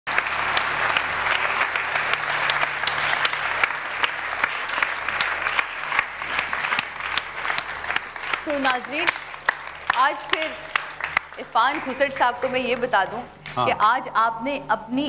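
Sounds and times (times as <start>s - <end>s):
audience applauding: 0.1s - 13.7s.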